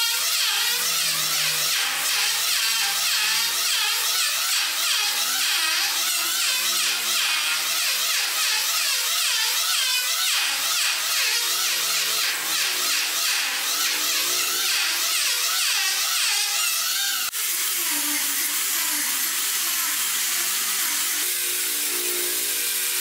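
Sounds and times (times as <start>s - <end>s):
electric planer cutting wood: 0.0s - 23.0s.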